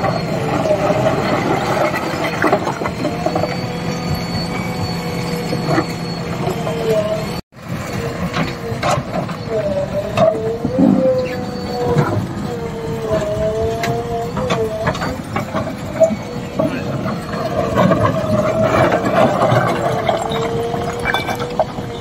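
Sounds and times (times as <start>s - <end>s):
diesel engine under hydraulic load: 0.0s - 22.0s.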